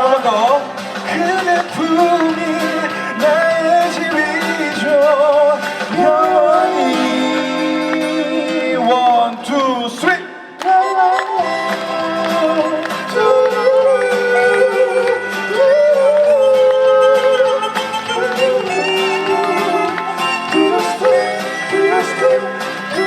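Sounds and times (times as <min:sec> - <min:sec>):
live band playing a ballad: 0:00.0 - 0:23.0.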